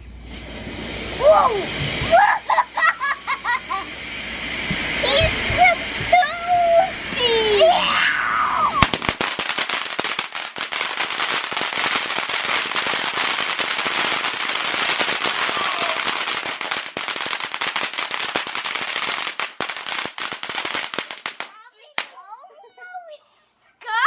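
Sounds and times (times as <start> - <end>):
fountain firework hissing and crackling: 0.0 - 22.2.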